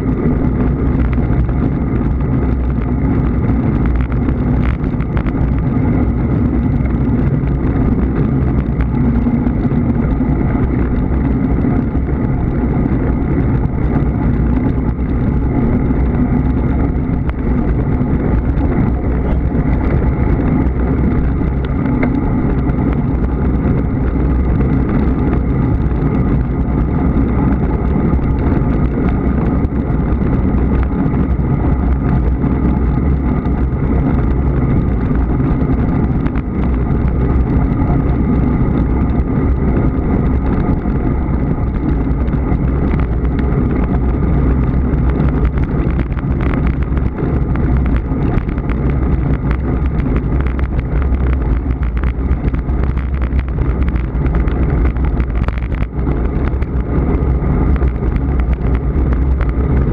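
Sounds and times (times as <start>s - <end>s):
road rumble: 0.0s - 59.9s
wind buffeting microphone: 0.0s - 59.9s.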